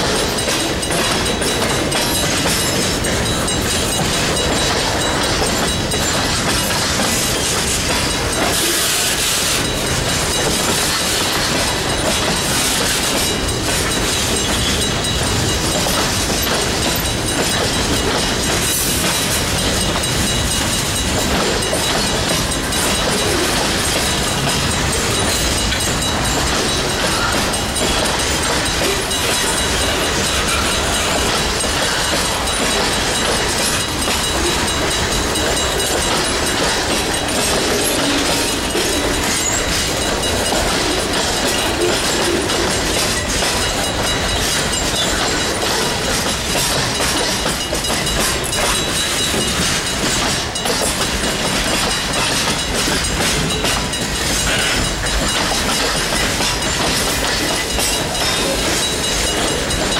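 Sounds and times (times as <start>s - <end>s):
crossing bell ringing: 0.0s - 59.9s
train wheels clattering on rails: 0.0s - 59.9s.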